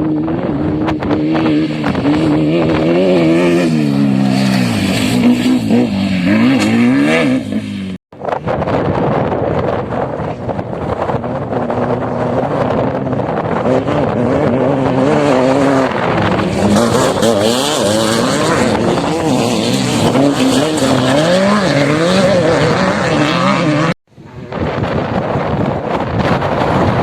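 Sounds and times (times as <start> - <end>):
vehicle engine revving: 0.0 - 8.0, 10.6 - 25.2
road and wind noise: 0.0 - 27.0.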